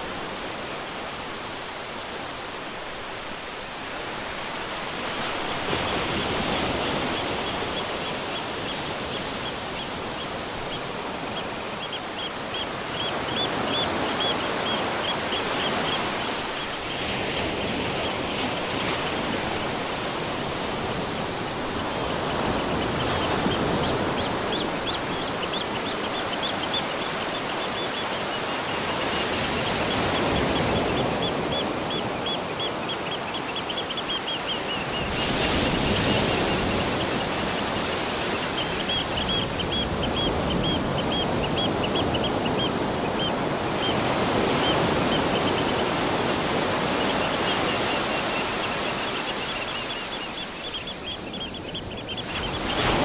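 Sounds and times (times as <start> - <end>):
ocean surf washing in: 0.0 - 53.0
birds chirping: 5.0 - 53.0.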